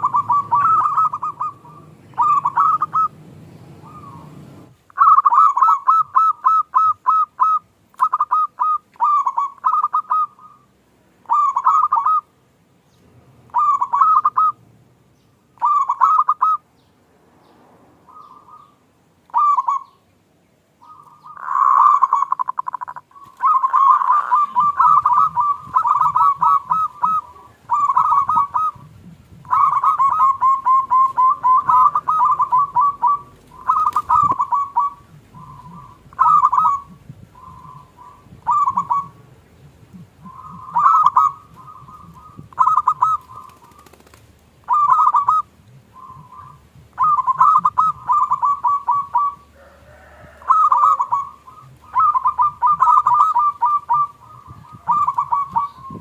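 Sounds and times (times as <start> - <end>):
dove cooing: 0.0 - 12.3, 13.4 - 14.6, 15.6 - 16.6, 18.1 - 20.0, 20.8 - 56.0.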